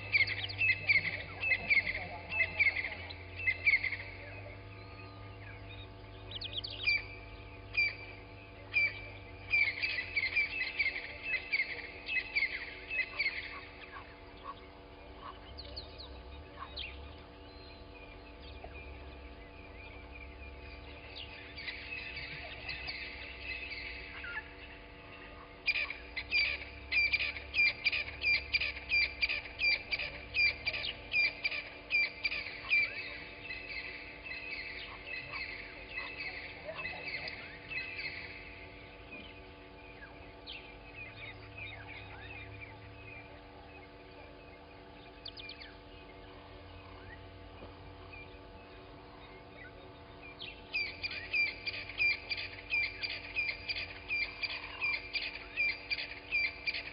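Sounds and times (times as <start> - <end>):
birds chirping and calling: 0.0 - 56.9
faint electrical hum: 0.0 - 56.9.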